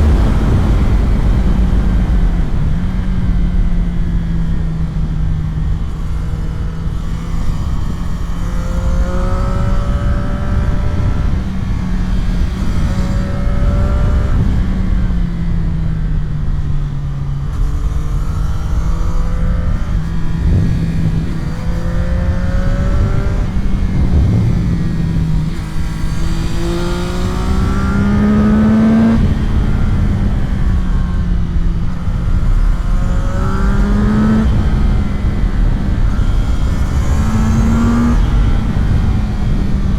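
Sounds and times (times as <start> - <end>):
motorcycle engine accelerating: 0.0 - 39.9
wind over microphone: 0.0 - 39.9.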